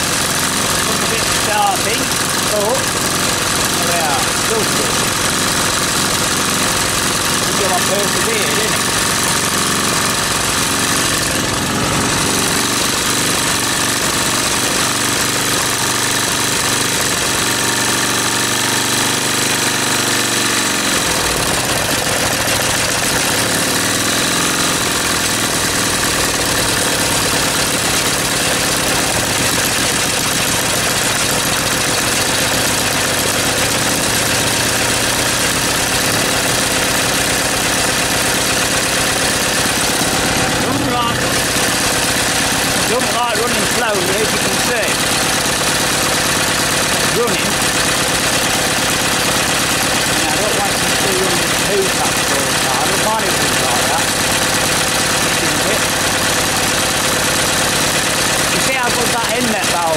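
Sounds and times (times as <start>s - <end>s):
small petrol engine running: 0.0s - 59.9s.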